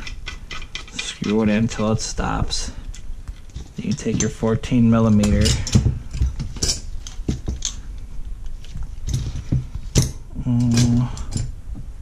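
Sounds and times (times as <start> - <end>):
metal tools clinking: 0.0 - 7.9, 9.1 - 11.5.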